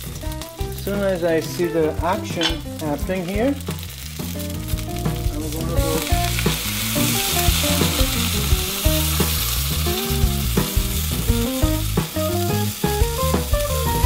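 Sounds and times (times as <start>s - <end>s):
background music melody: 0.0s - 14.0s
sizzling in hot oil: 0.0s - 14.0s.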